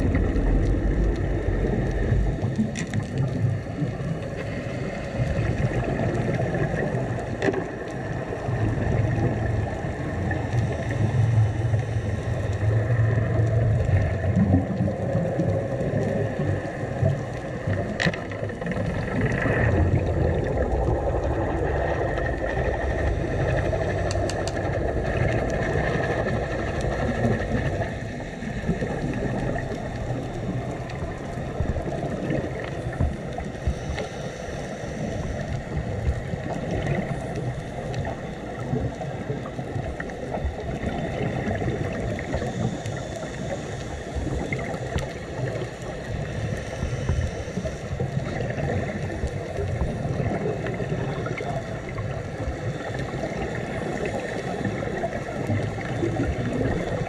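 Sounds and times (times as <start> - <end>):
underwater low rumble: 0.0 - 57.0.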